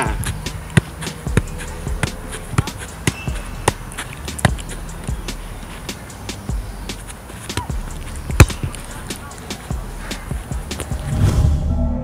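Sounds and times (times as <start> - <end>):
football thuds being juggled: 0.0 - 11.1.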